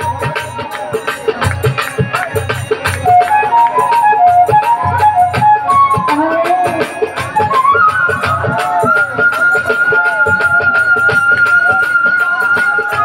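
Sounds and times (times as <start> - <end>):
fast hand-drum beat: 0.0 - 13.0
high folk melody: 0.0 - 13.0.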